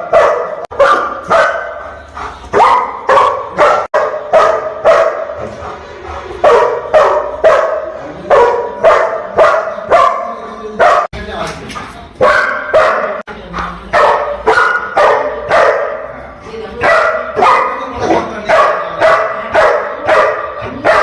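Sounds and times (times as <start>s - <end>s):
dog barking: 0.0s - 11.1s, 12.2s - 13.3s, 13.9s - 16.1s, 16.8s - 21.0s.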